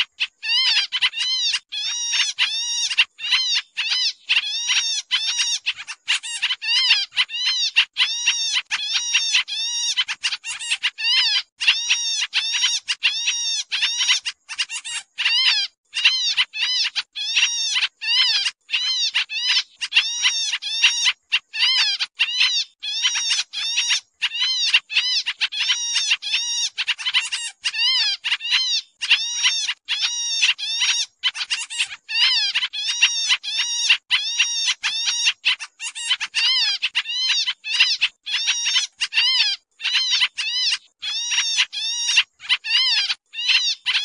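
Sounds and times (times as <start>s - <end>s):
bird chattering calls: 0.0s - 44.0s.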